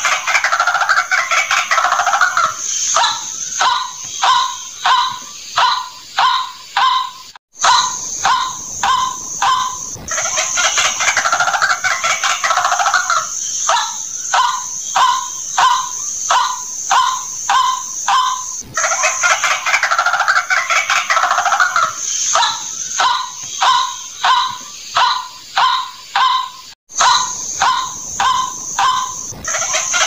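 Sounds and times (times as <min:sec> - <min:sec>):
steady high hiss: 0:00.0 - 0:06.8, 0:07.6 - 0:30.0
bird croaking and chattering: 0:00.0 - 0:30.0.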